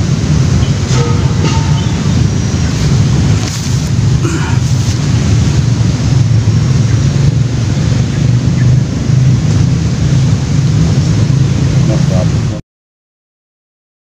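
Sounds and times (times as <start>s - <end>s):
loud low rumble: 0.0s - 12.6s.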